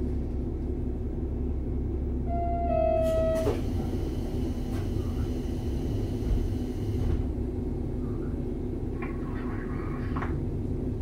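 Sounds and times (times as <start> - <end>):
diesel engine idling rumble: 0.0 - 11.0.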